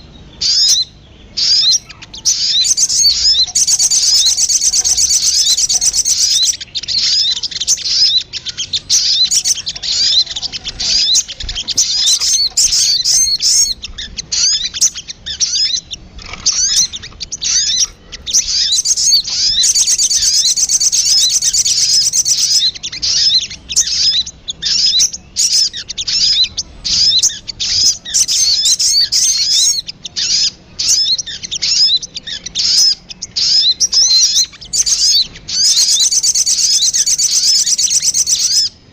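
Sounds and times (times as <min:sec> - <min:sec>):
high-pitched bird chirping: 0:00.0 - 0:38.9.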